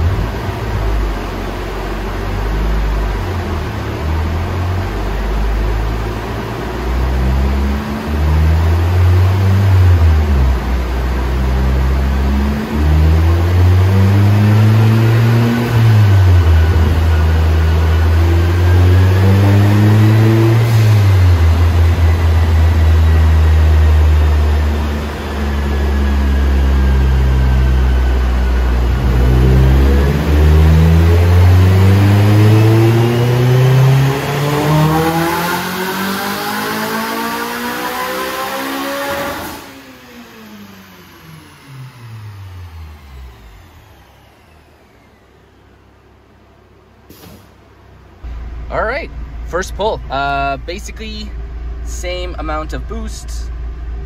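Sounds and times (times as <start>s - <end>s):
car engine revving: 0.0s - 54.0s
faint rising whine: 0.0s - 54.0s.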